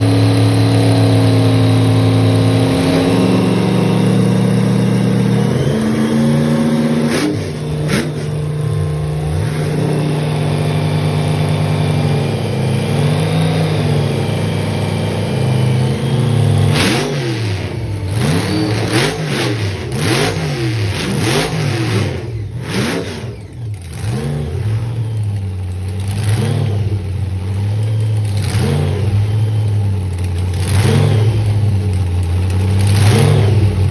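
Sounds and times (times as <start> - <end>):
car engine idling high: 0.0 - 33.9
car engine revving: 0.0 - 33.9.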